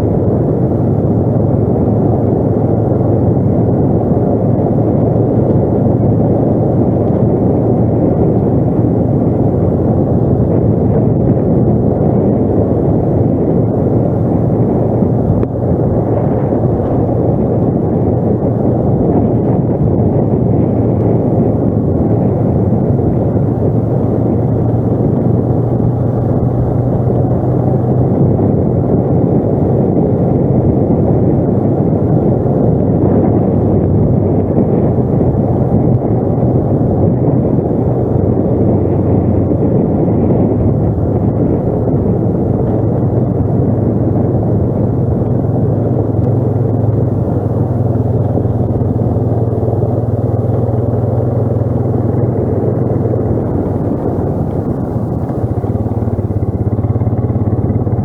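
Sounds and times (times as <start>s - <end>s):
atv engine droning: 0.0s - 58.0s.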